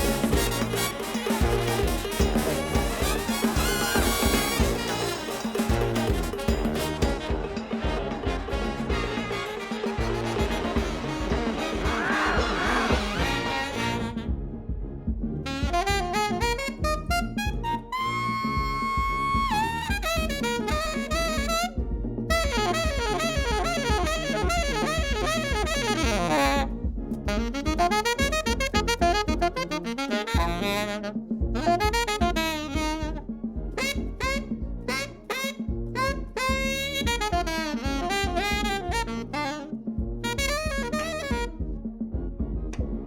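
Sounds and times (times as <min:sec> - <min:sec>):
jazz saxophone melody: 0:00.0 - 0:14.7, 0:15.4 - 0:42.0
low accompaniment: 0:00.0 - 0:43.0.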